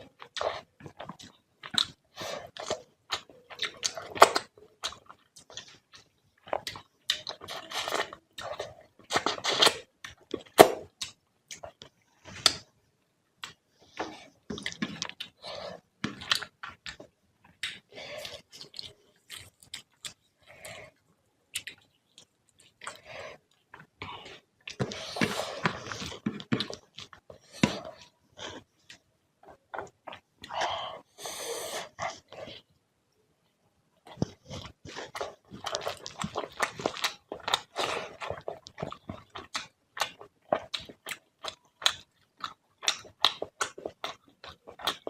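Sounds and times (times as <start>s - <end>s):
person chewing food: 0.0s - 12.7s, 13.4s - 32.7s, 34.0s - 45.0s.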